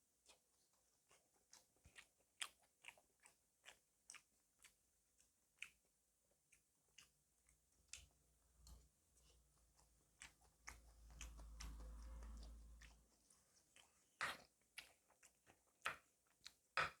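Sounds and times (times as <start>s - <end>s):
person chewing food: 0.2s - 17.0s.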